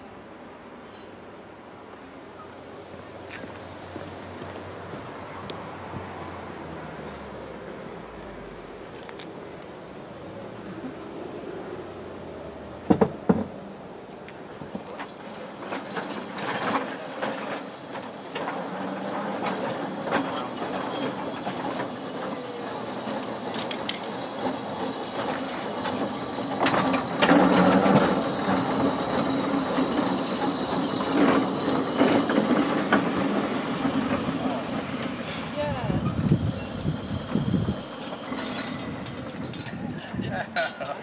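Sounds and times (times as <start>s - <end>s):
tram wheels clattering over rails: 3.2s - 41.0s.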